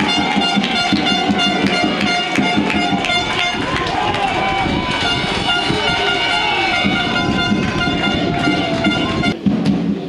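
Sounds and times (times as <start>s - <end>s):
horns blowing long tones: 0.0s - 9.4s
crowd noise: 0.0s - 10.0s.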